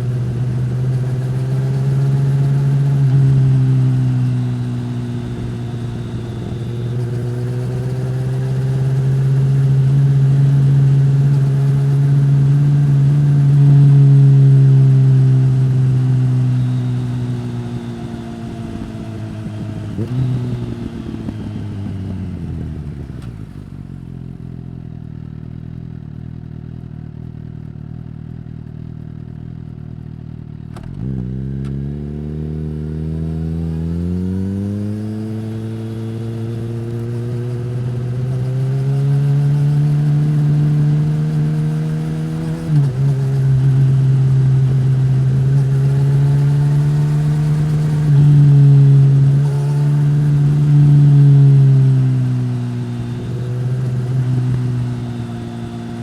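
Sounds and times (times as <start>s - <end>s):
motorcycle engine revving: 0.0s - 24.7s, 30.7s - 56.0s.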